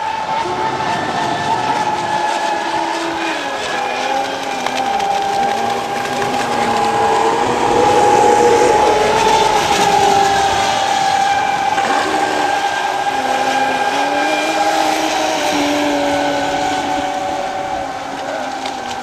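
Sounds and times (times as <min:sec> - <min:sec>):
electric boat motors whining: 0:00.0 - 0:19.0.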